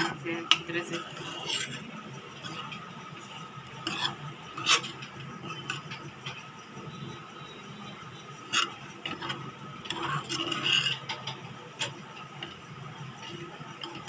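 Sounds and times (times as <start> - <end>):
metal spoon scraping frying pan: 0.0 - 14.0.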